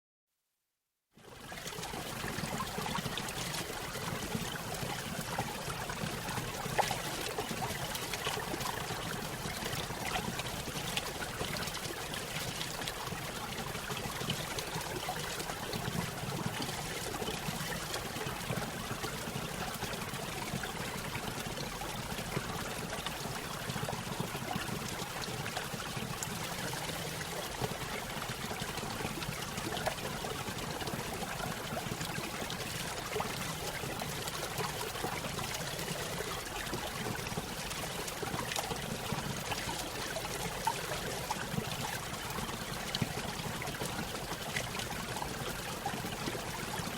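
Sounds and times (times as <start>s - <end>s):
water trickling and splashing: 1.3s - 46.9s.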